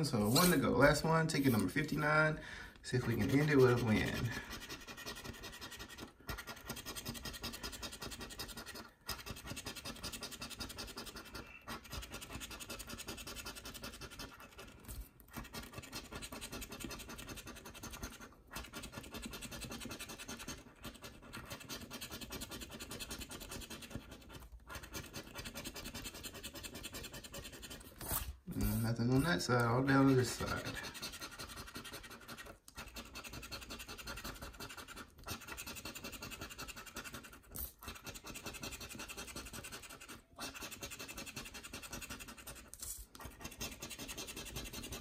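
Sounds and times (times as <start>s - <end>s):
scratching lottery ticket: 0.0s - 45.0s.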